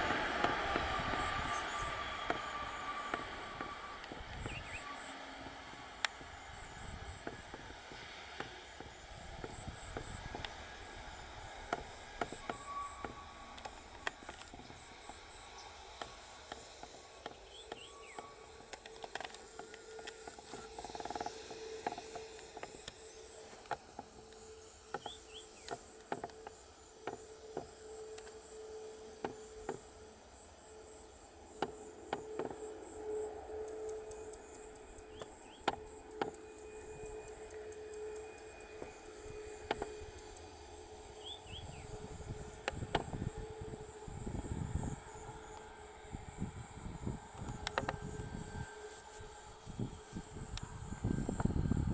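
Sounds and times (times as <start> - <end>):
faint steady hum: 0.0 - 51.9
insects chirping: 0.0 - 51.9.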